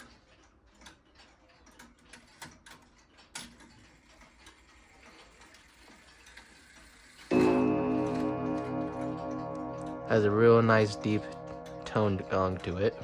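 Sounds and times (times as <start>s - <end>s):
clock ticking and clicking: 0.0s - 13.0s.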